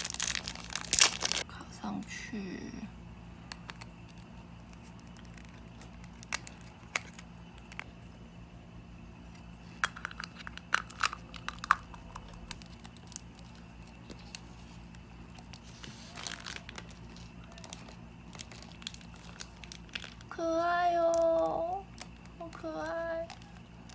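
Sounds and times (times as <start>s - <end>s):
faint steady hum: 0.0s - 23.9s.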